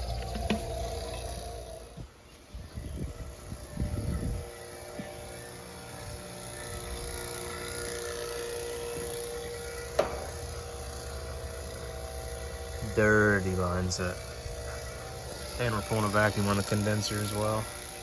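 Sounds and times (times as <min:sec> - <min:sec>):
vacuum pump running: 0:00.0 - 0:18.0.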